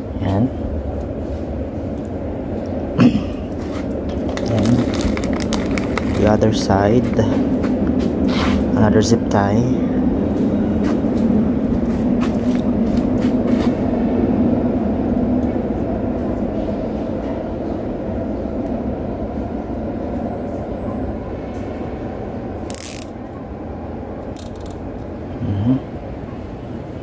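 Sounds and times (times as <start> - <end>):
low mechanical rumble: 0.0 - 27.0.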